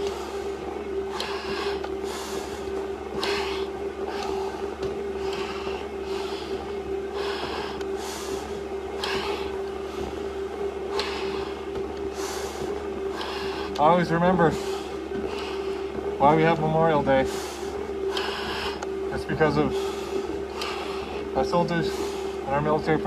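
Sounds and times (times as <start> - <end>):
breathing through a regulator: 0.0 - 15.9, 17.1 - 22.8
steady hum: 0.0 - 23.0.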